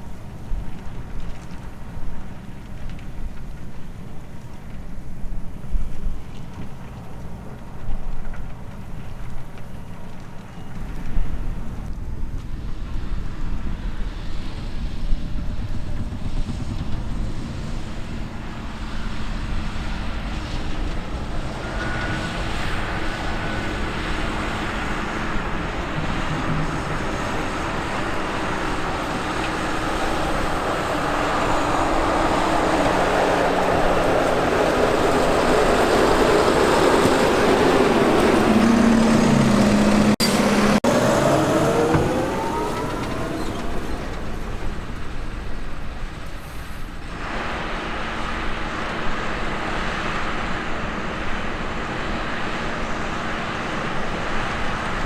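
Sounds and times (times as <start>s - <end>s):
diesel machinery rumbling: 0.0s - 55.0s.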